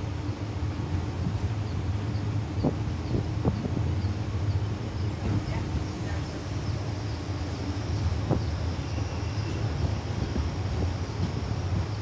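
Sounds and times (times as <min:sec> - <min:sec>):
train running at speed: 0:00.0 - 0:12.0.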